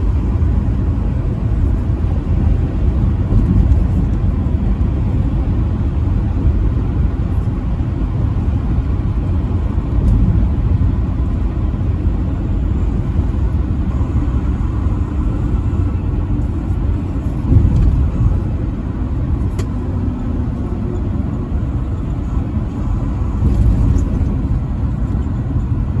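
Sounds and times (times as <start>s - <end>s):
truck driving at speed: 0.0s - 26.0s.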